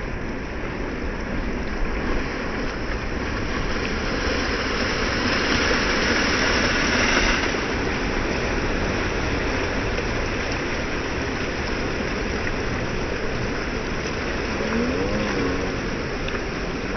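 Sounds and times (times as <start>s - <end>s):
surf washing over rock seawall: 0.0s - 16.9s.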